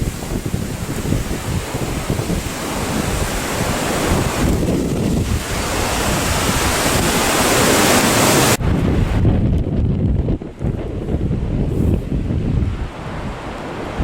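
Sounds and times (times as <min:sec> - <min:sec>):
strong gusty wind buffeting microphone: 0:00.0 - 0:14.0.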